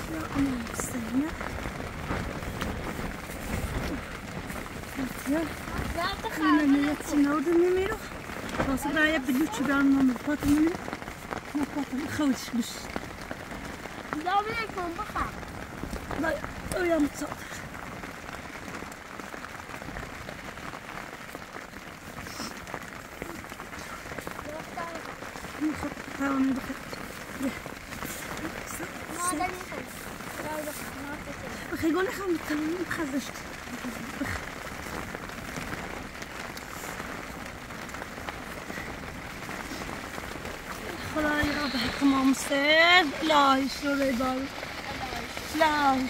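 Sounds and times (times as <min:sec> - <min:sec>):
rain pattering on a tent: 0:00.0 - 0:46.0.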